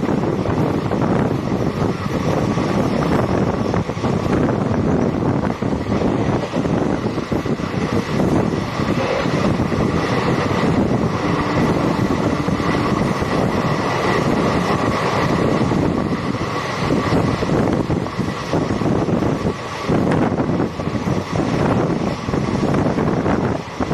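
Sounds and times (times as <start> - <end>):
train rushing rumble: 0.0 - 23.9
wind buffeting microphone: 0.0 - 23.9.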